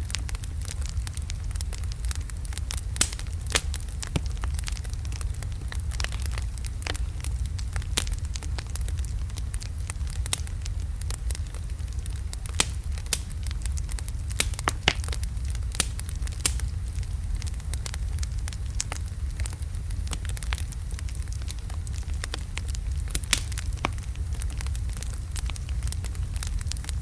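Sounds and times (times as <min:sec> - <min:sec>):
logs crackling and popping: 0:00.0 - 0:27.0
low rumble of flames: 0:00.0 - 0:27.0.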